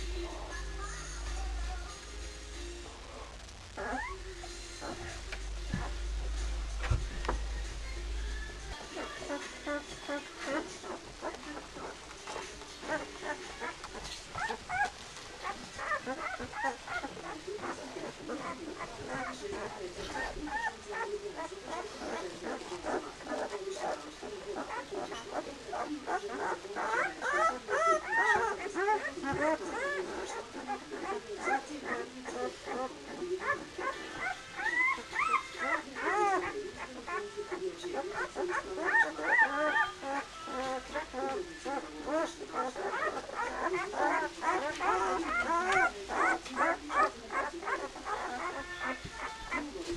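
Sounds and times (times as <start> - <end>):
puppies whimpering and squeaking: 3.7 - 7.8, 8.4 - 49.9.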